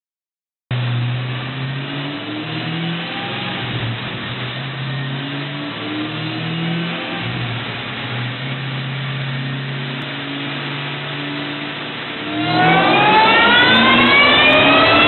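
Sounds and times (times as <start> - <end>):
car engine revving: 0.7 - 15.0.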